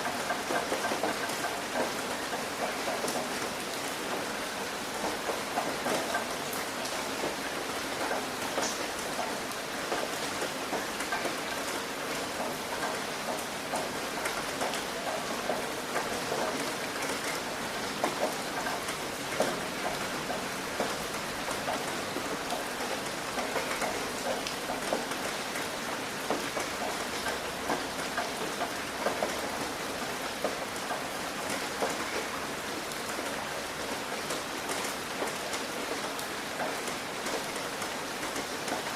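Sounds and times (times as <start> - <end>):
rain pattering on a roof: 0.0 - 38.9.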